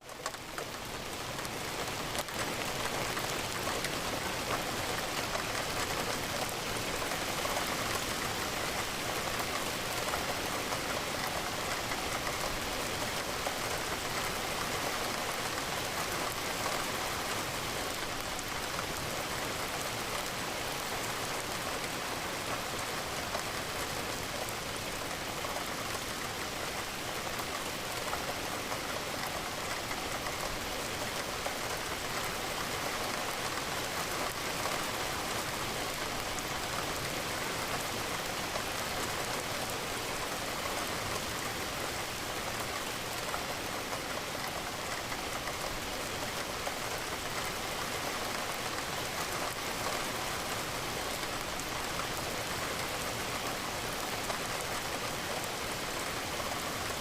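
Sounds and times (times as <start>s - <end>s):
rain against a window: 0.0s - 57.0s.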